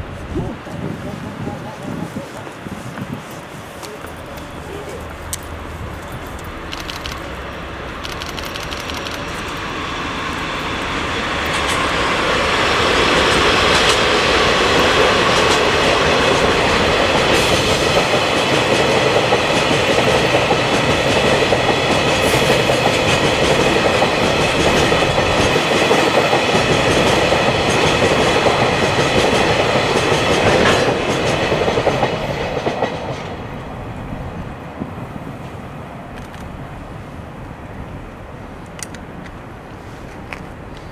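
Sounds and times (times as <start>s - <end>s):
diesel freight train passing: 0.0s - 40.9s.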